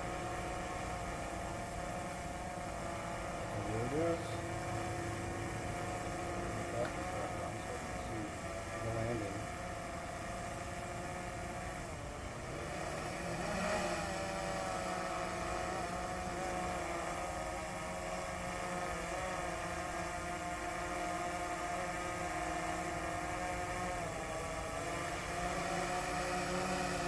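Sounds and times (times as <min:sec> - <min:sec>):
drone propellers whining: 0:00.0 - 0:27.0.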